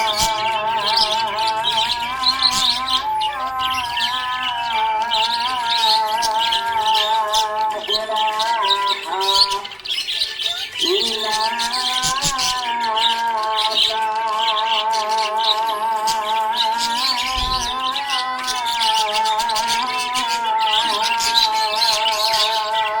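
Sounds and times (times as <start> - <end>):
parrots chirping and squawking: 0.0 - 23.0.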